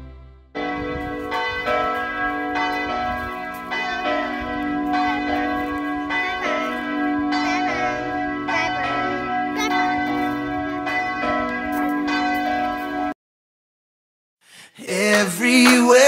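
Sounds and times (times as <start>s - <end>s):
church bells ringing: 0.0s - 13.2s.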